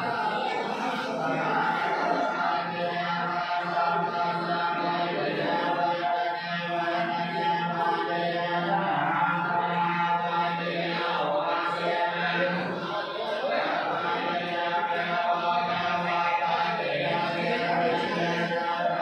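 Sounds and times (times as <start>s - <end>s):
group chanting in unison: 0.0s - 19.0s.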